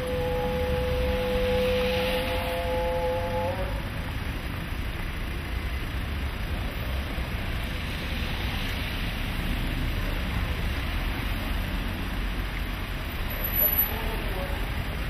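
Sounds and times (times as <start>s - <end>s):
city street traffic rumble: 0.0s - 15.0s
vans passing close by: 0.0s - 15.0s.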